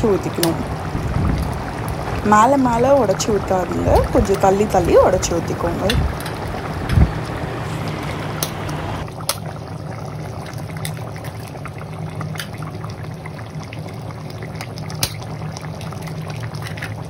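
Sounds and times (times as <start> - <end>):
curry bubbling in metal pot: 0.0 - 17.0.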